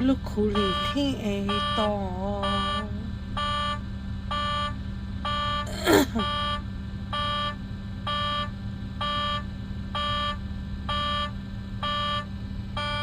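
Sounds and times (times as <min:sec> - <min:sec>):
truck engine humming: 0:00.0 - 0:13.0
electronic warning beeps: 0:00.5 - 0:06.6, 0:07.2 - 0:13.0.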